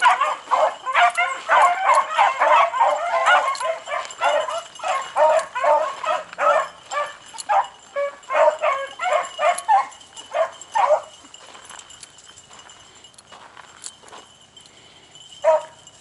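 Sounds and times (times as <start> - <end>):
hounds baying: 0.0 - 16.0.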